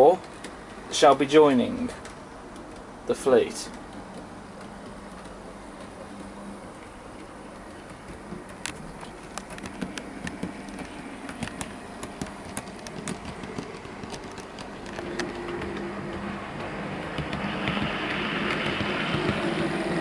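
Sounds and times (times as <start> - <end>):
wheels clicking on track: 0.0 - 20.0.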